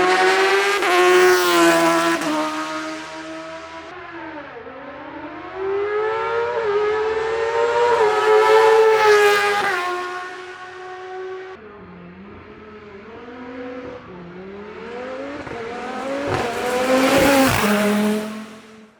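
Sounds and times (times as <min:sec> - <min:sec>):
race car engines revving: 0:00.0 - 0:18.9.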